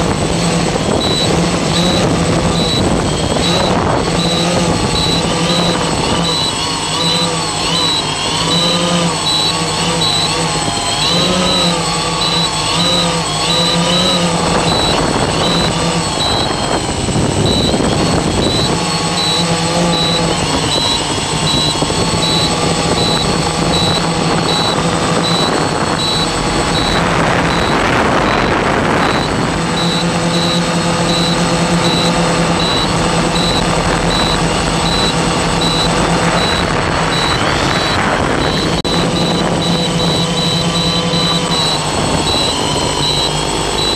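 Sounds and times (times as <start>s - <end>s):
drone propellers whirring: 0.0s - 43.9s.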